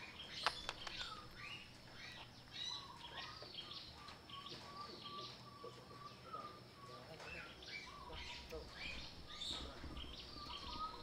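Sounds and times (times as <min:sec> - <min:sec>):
high chirping calls: 0:00.0 - 0:11.0.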